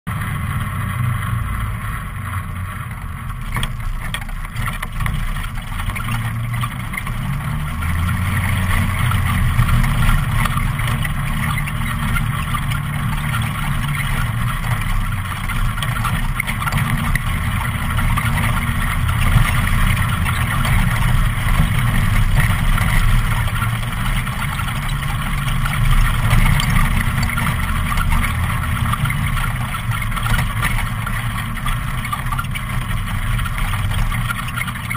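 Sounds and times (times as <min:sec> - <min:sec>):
quad bike engine revving: 0:00.1 - 0:34.9.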